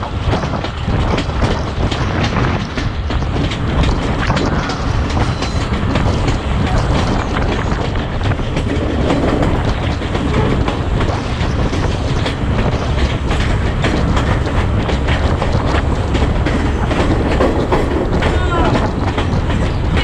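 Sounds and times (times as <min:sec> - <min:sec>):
train rumbling: 0:00.0 - 0:20.0
wheels clattering over rail joints: 0:00.0 - 0:20.0.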